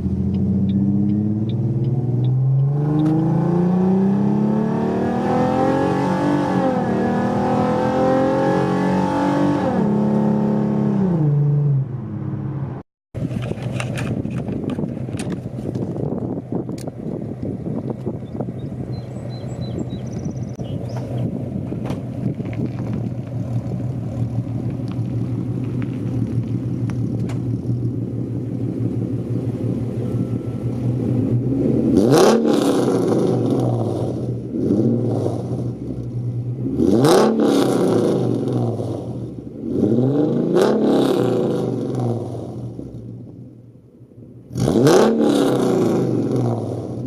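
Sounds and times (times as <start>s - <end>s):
car exhaust droning and revving: 0.0s - 47.0s.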